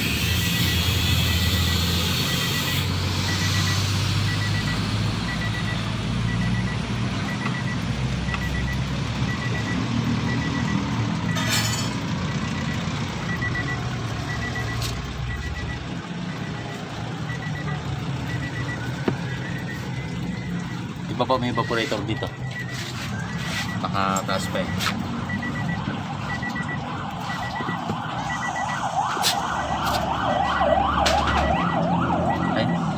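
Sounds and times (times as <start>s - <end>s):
electronic warning beeper: 0.4s - 32.9s
engine humming: 0.8s - 32.9s.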